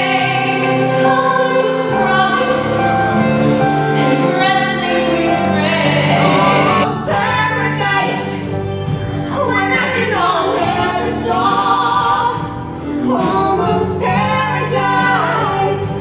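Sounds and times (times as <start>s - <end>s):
instrumental accompaniment: 0.0s - 16.0s.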